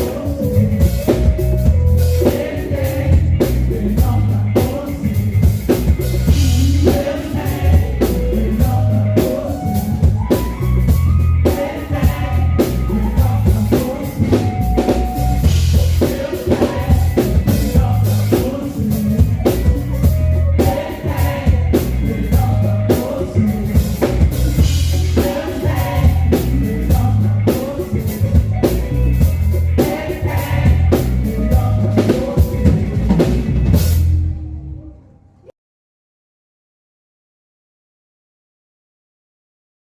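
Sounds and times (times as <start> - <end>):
person singing: 0.0 - 33.2
drum kit: 0.0 - 34.4
worship music: 0.0 - 35.4
bass: 0.0 - 35.5.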